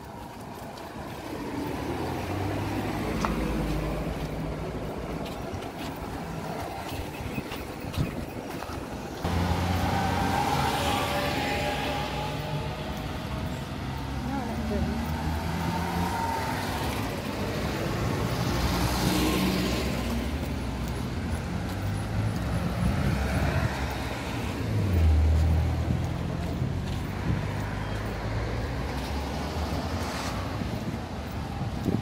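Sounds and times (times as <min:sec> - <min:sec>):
cars driving past: 0:00.0 - 0:32.0.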